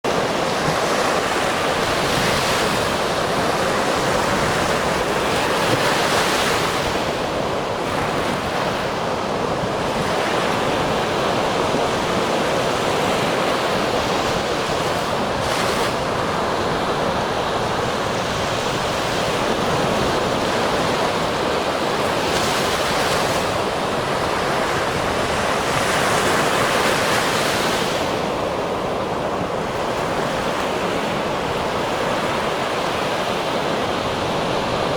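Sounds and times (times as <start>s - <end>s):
ocean waves breaking: 0.1s - 34.9s.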